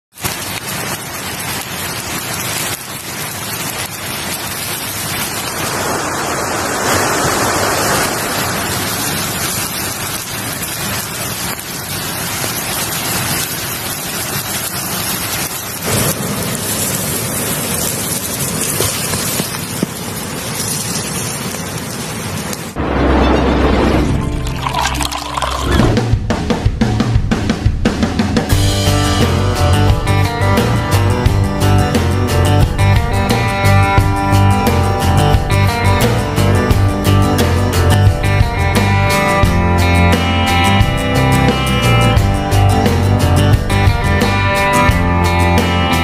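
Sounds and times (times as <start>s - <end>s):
chicken fat sizzling: 0.1s - 23.1s, 28.5s - 46.0s
fire crackling: 0.1s - 46.0s.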